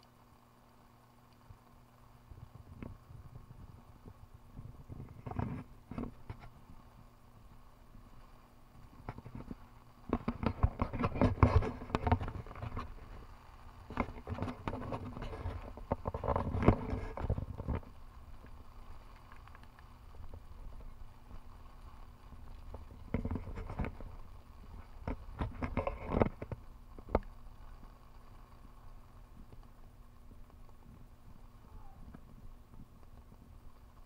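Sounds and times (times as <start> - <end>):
faint hiss of wind and rain: 0.0 - 34.0.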